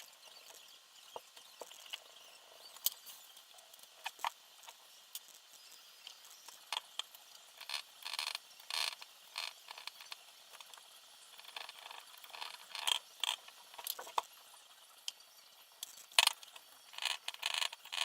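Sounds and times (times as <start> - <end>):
small parts and tools clicking: 0.0 - 18.0.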